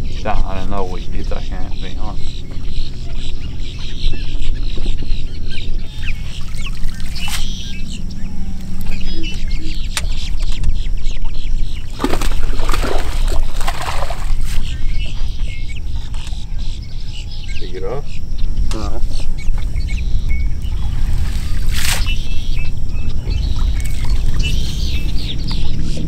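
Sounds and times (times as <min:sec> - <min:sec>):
steady low rumble: 0:00.0 - 0:26.0
waterbirds honking: 0:00.0 - 0:26.0.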